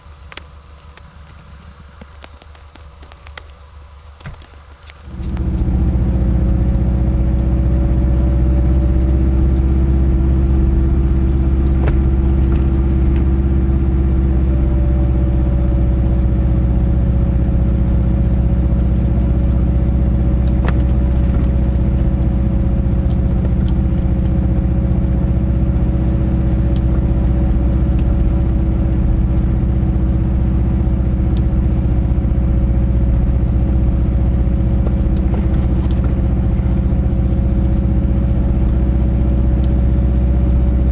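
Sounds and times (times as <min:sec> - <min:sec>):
car engine rumbling at cruise: 0:00.0 - 0:40.9.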